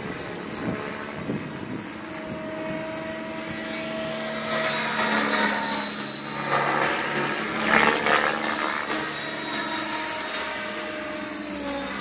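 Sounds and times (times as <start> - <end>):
high steady whine: 0.0 - 12.0
model helicopter rotor noise: 0.0 - 12.0.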